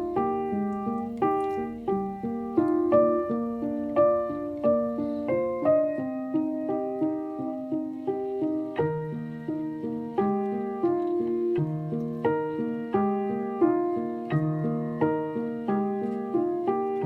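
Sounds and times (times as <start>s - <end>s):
soft solo piano melody: 0.0s - 17.0s.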